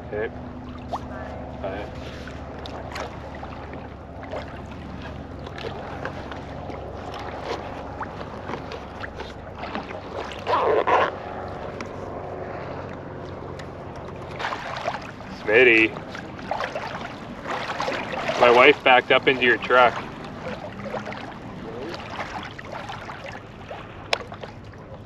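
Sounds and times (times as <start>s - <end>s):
steady low hum: 0.0s - 25.0s
water lapping against hull: 0.0s - 25.0s.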